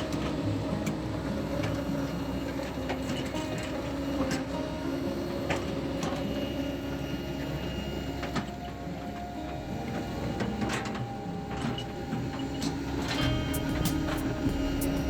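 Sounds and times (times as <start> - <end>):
heavy construction machinery running: 0.0 - 15.0.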